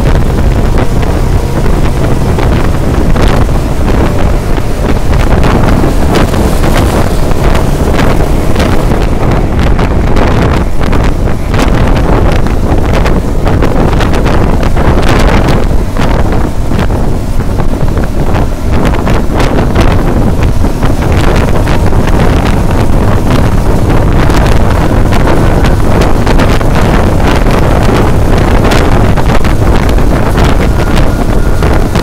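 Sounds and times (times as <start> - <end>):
vehicle road noise: 0.0 - 32.0
wind buffeting microphone: 0.0 - 32.0.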